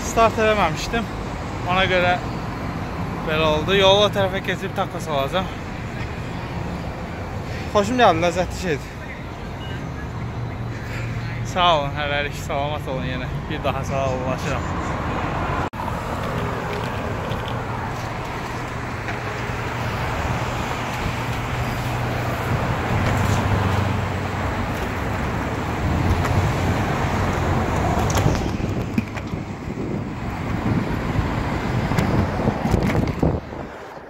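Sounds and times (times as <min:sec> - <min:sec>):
road and air noise: 0:00.0 - 0:34.0.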